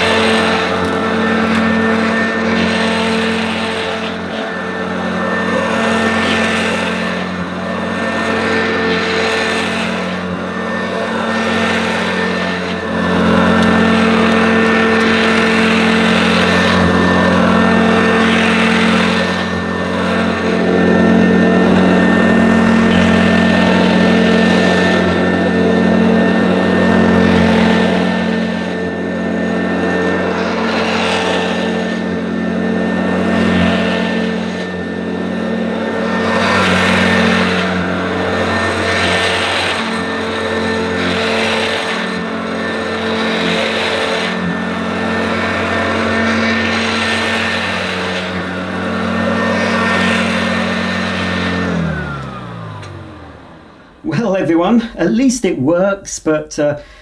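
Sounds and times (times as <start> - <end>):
squeaky motor: 0.0 - 53.2
upright vacuum cleaner running: 0.0 - 57.0.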